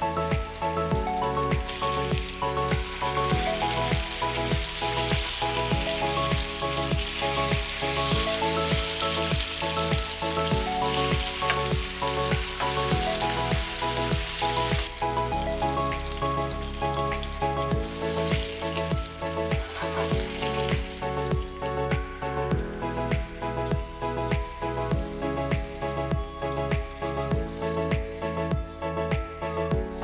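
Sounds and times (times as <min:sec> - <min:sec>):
background music with beat: 0:00.0 - 0:30.0
fish sizzling in hot oil: 0:00.0 - 0:30.0.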